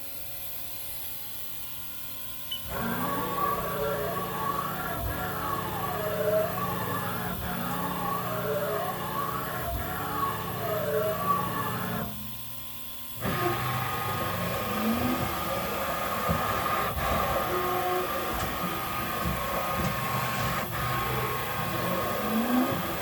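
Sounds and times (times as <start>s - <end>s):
machine mechanical hum: 0.0s - 23.0s
axis drive whines: 2.2s - 23.0s.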